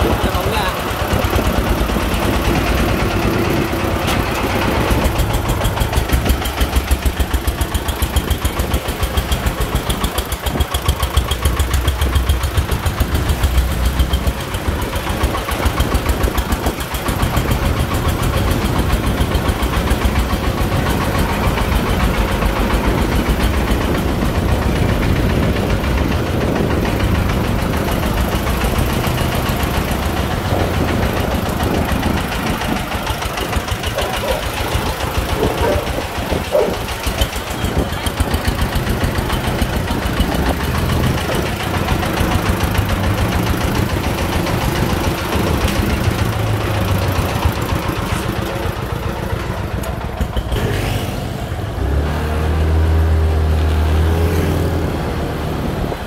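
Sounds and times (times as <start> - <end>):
diesel truck engine chugging: 0.0 - 56.0.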